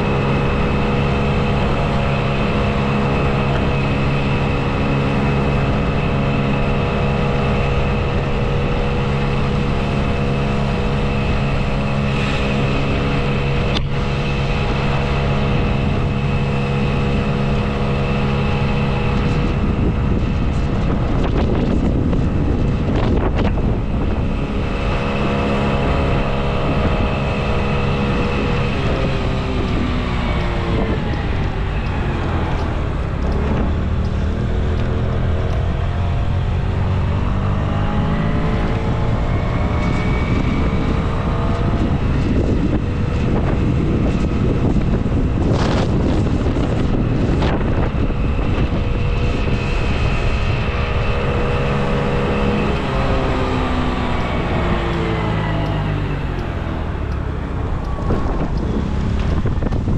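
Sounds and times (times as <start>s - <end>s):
street traffic: 0.0s - 59.9s
vehicle engine slowing and speeding up: 0.0s - 59.9s
wind rushing over microphone: 0.0s - 59.9s.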